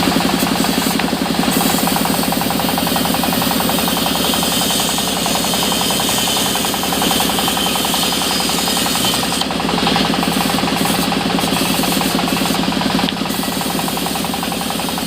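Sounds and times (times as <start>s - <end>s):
sawmill machinery pulsing: 0.0s - 15.0s.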